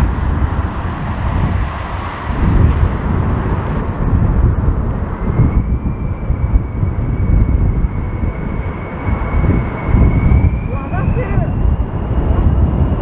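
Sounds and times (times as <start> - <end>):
high jet engine whine: 0.0 - 13.0
jet engines low rumble: 0.0 - 13.0.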